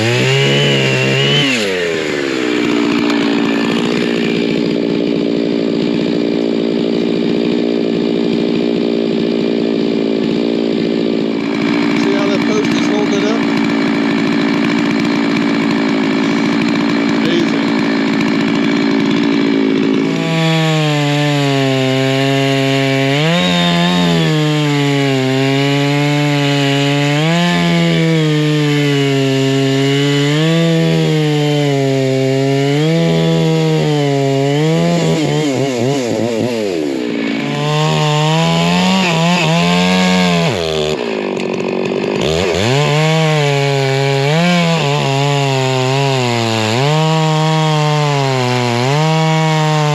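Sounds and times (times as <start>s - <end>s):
chainsaw cutting logs: 0.0s - 49.9s.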